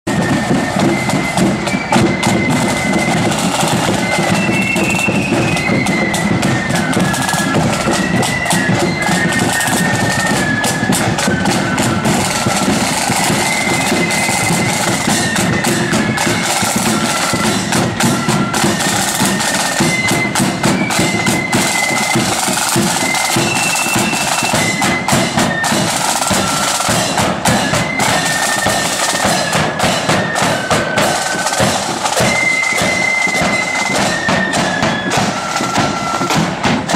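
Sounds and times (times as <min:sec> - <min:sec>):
snare drums: 0:00.0 - 0:36.9
cymbals: 0:00.1 - 0:36.9
high wind instrument melody: 0:00.1 - 0:36.9.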